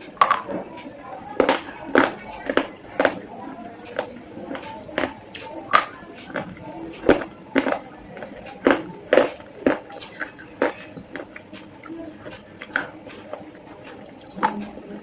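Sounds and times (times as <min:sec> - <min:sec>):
slate pencils crunching: 0:00.0 - 0:15.0.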